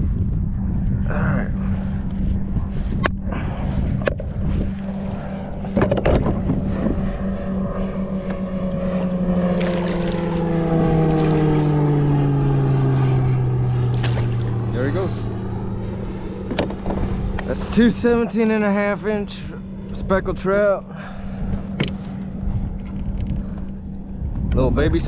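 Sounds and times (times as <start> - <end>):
motorboat engine drone: 0.0 - 25.0.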